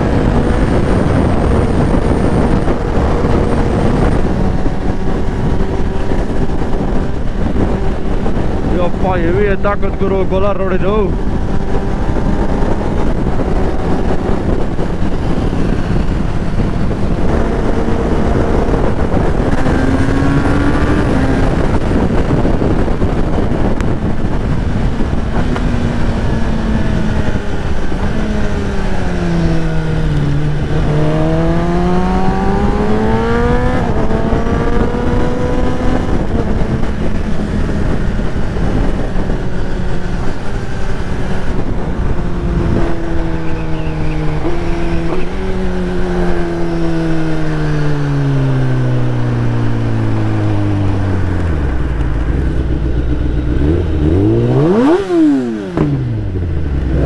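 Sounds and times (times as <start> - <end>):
motorcycle engine at speed: 0.0 - 57.0
wind rush: 0.0 - 57.0.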